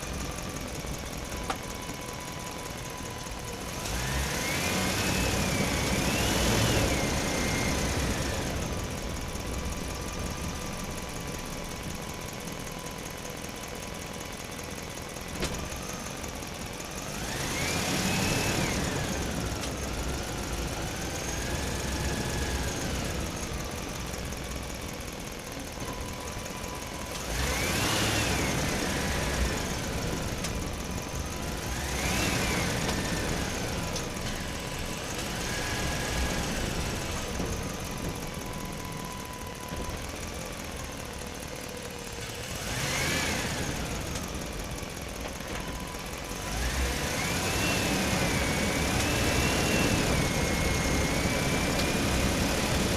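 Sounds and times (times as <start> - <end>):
truck engine revving: 2.5 - 12.6, 14.8 - 26.0, 27.0 - 39.0, 40.9 - 52.9.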